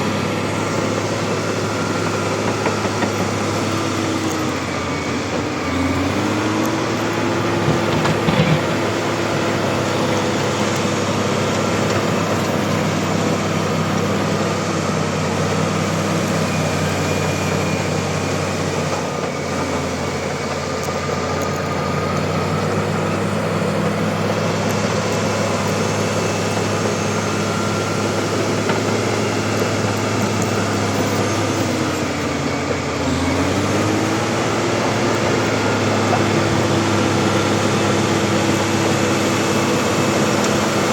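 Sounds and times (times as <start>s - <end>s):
bulldozer diesel engine running: 0.0s - 40.9s
track and machine noise: 0.0s - 40.9s.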